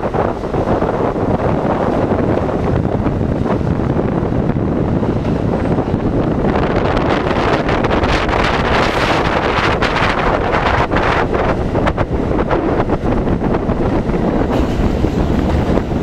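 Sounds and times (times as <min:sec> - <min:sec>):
subway train running noise: 0:00.0 - 0:16.0
wind rushing over microphone: 0:00.0 - 0:16.0.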